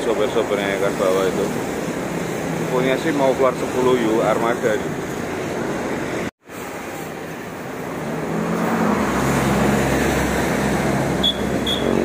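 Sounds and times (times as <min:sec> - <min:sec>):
outdoor traffic noise: 0:00.0 - 0:12.0.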